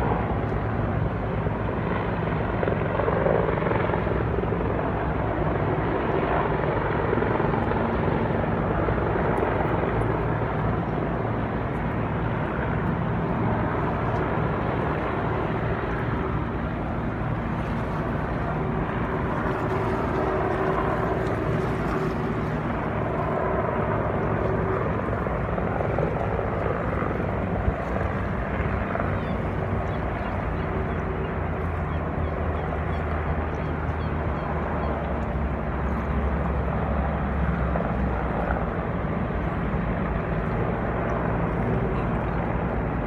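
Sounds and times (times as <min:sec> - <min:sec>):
engine drone: 0:00.0 - 0:43.0.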